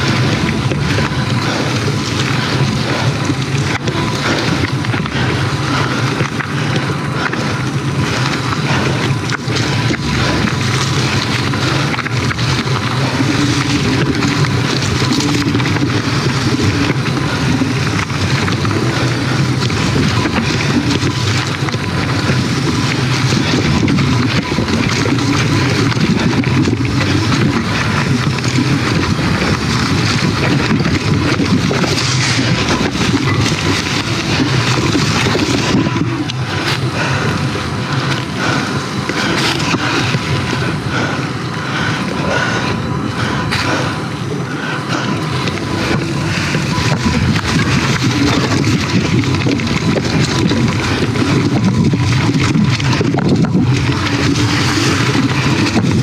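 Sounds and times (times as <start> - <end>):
bike tyres rumbling on dirt: 0.0 - 56.0
wind noise on microphone: 0.0 - 56.0.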